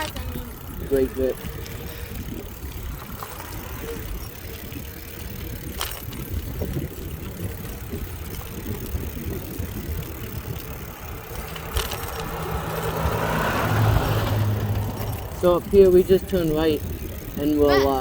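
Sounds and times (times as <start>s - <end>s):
passing car engine and tyres: 0.0s - 18.0s
road riding rumble: 0.0s - 18.0s.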